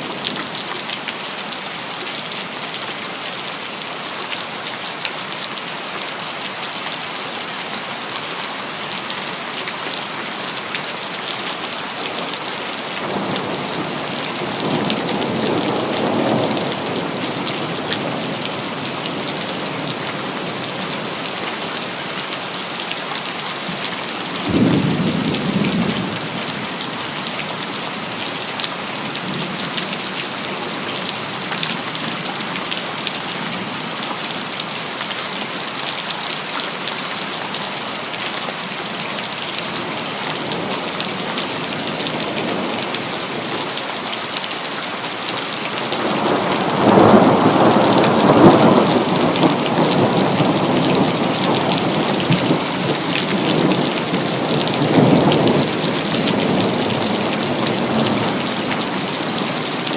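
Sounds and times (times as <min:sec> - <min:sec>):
rain pattering on hard surfaces: 0:00.0 - 0:59.9.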